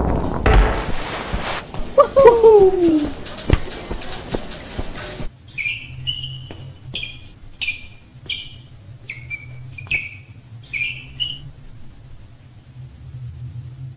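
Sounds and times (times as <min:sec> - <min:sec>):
shoes squeaking on floor: 0:00.6 - 0:12.4.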